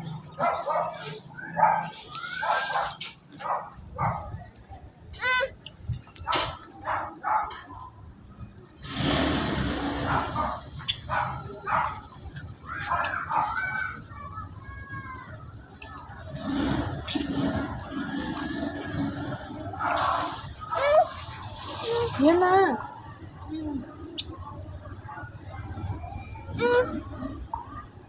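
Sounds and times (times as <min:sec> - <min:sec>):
birds chirping and calling: 0:00.0 - 0:04.5, 0:05.2 - 0:08.0, 0:08.7 - 0:28.0.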